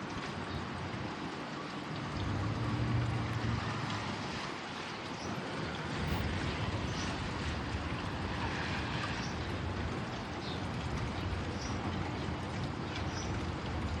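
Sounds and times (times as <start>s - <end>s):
rain rushing: 0.0s - 14.0s.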